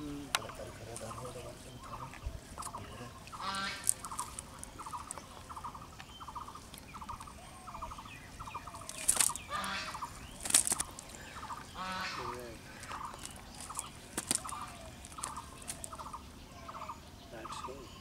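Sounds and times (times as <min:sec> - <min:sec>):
birds chattering: 0:00.0 - 0:18.0
harsh bird calls: 0:00.0 - 0:18.0.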